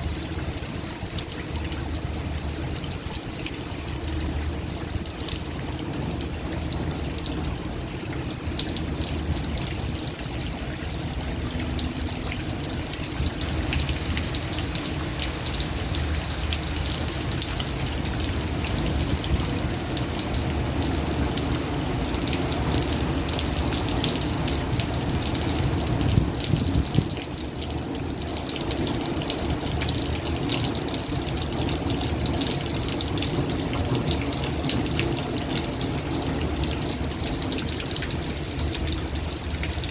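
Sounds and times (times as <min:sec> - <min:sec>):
heavy rain: 0:00.0 - 0:39.9
water pouring and splashing: 0:00.0 - 0:39.9.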